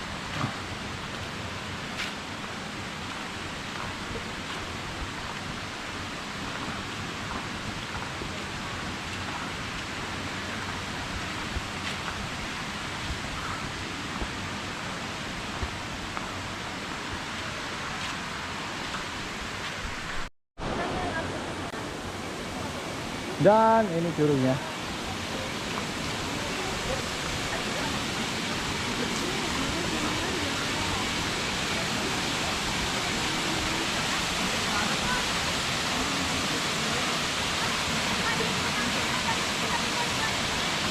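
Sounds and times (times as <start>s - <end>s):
water rushing in stream: 0.0s - 40.9s.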